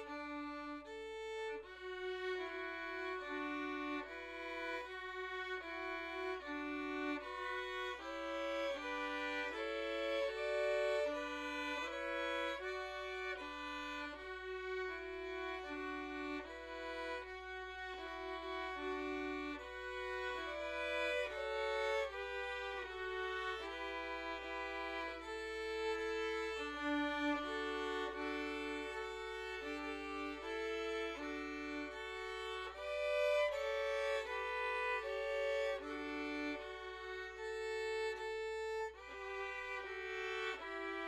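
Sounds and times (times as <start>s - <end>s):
violin ensemble playing: 0.0s - 41.0s.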